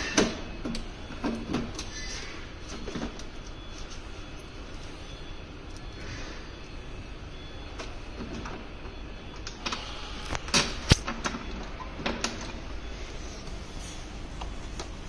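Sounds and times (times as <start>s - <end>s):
low factory hum: 0.0s - 15.0s.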